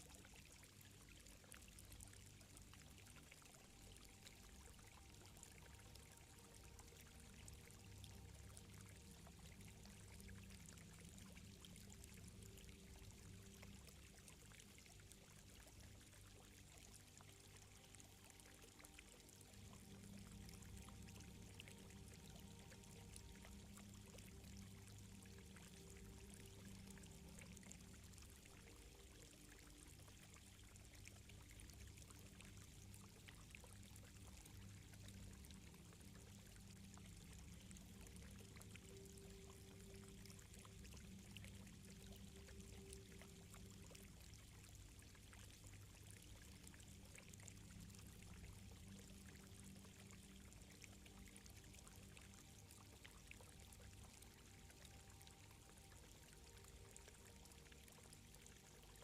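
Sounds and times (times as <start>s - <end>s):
trickling water: 0.0s - 59.0s.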